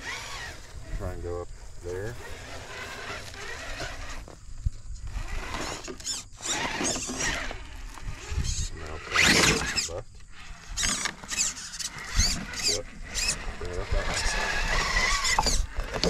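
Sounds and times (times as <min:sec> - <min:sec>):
electric motor whining in bursts: 0:00.0 - 0:16.0
tires scrabbling on rock: 0:00.0 - 0:16.0.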